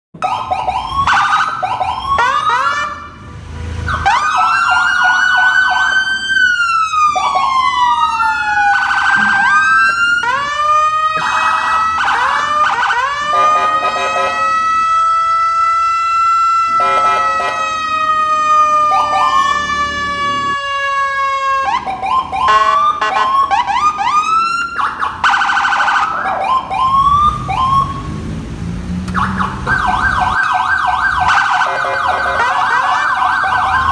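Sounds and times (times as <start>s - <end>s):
police car siren: 0.2s - 33.9s.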